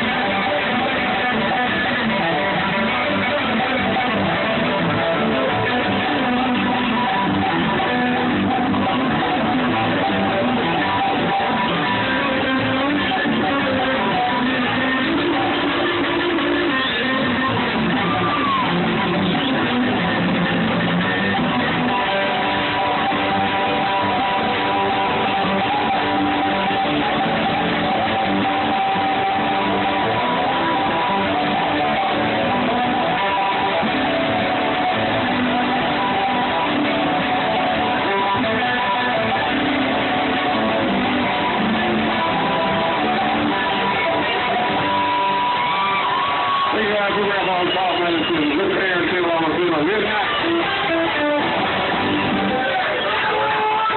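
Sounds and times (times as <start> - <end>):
bluegrass band playing: 0.0 - 53.9
strummed guitar: 0.0 - 53.9.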